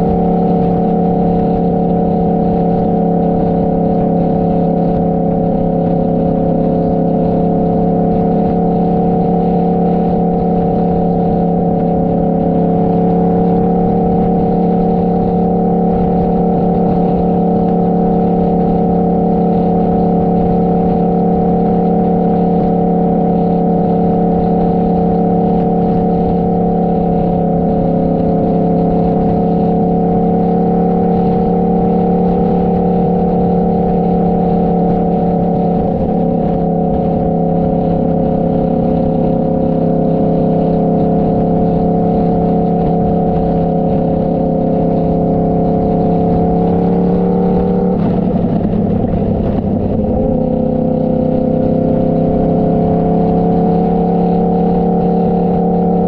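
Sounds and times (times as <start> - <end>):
motorcycle engine cruising: 0.0 - 56.0
wind noise on microphone: 0.0 - 56.0.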